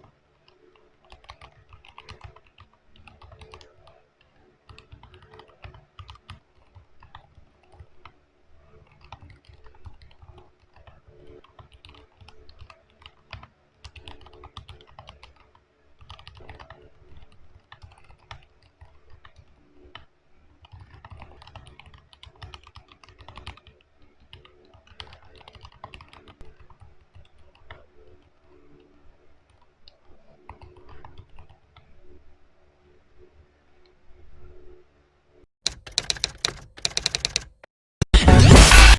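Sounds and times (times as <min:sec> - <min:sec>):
quiet mechanical keyboard typing: 0:00.4 - 0:28.2, 0:29.5 - 0:32.0, 0:35.7 - 0:37.7.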